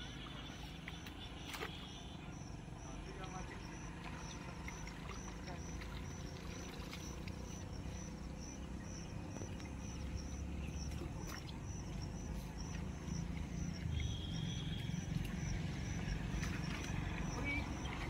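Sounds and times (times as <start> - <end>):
water sloshing: 0.0 - 18.0.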